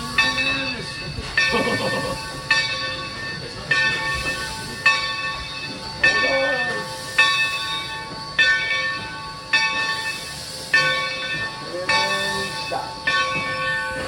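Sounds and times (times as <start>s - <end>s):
locomotive bell ringing: 0.0s - 14.0s
steam hissing: 0.0s - 14.0s.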